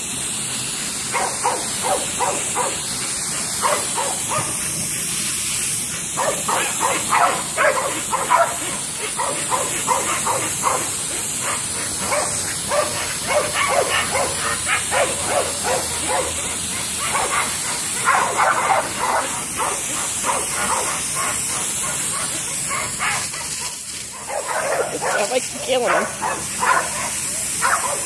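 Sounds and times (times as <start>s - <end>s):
steady high hiss: 0.0s - 28.0s
dogs barking: 1.0s - 4.8s, 6.0s - 28.0s.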